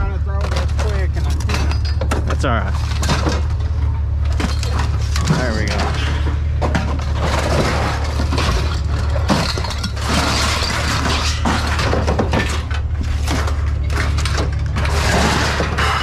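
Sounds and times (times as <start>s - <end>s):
steady low hum: 0.0s - 16.0s
scrap metal clattering: 0.3s - 16.0s.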